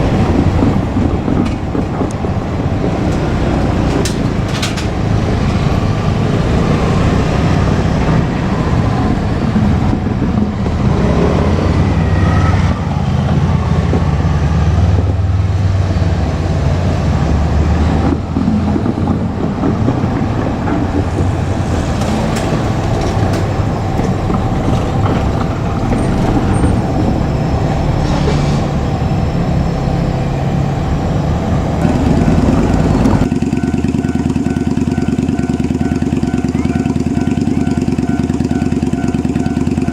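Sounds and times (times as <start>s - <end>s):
diesel railcar engine: 0.0s - 39.9s
rail clatter: 0.0s - 39.9s.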